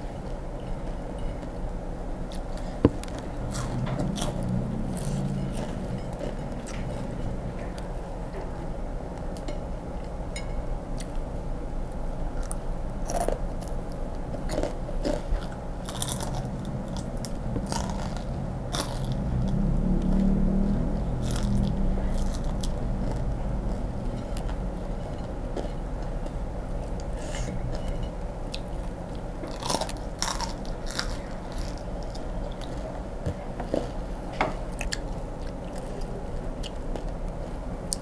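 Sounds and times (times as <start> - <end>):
low hum: 0.0 - 38.0
chewing crispy fried insects: 2.3 - 7.9, 11.9 - 38.0.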